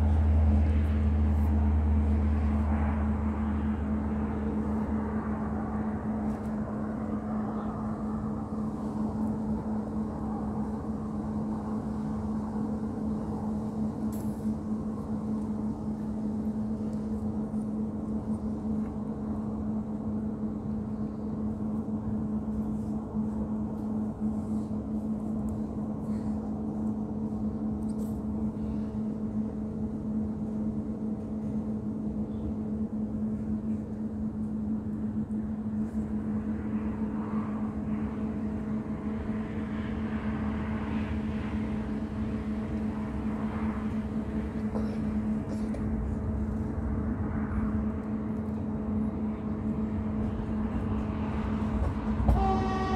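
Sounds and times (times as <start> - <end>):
car on the road: 0.0 - 52.9
steady machine hum: 0.0 - 52.9.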